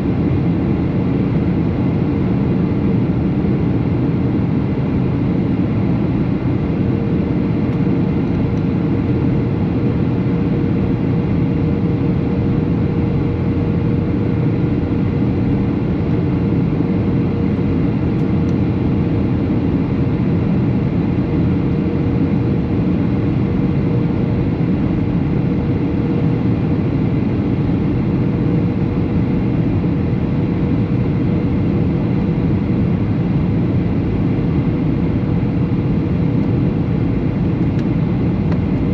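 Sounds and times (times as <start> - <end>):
airliner engines and rushing air: 0.0 - 38.9.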